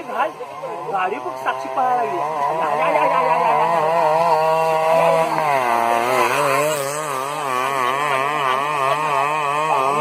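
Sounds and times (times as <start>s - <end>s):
small engine buzzing: 0.0s - 10.0s.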